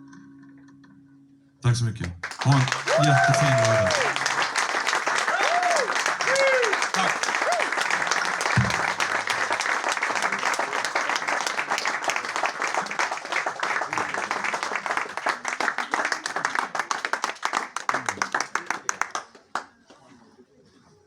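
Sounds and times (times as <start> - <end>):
audience applauding: 2.0 - 19.9.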